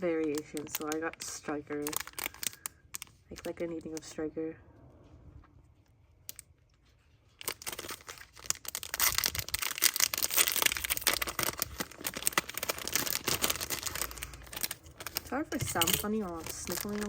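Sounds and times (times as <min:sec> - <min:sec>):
plastic packaging crinkling: 0:00.0 - 0:04.2, 0:06.2 - 0:17.0.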